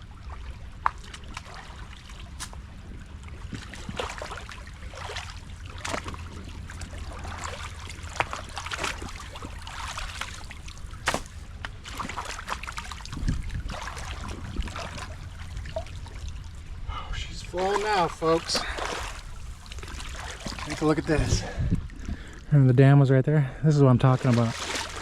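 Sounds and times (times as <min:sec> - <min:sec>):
creek water gurgling: 0:00.0 - 0:21.6, 0:24.0 - 0:25.0
sharp knocks and splashes: 0:00.2 - 0:16.6, 0:17.5 - 0:21.5, 0:24.1 - 0:25.0.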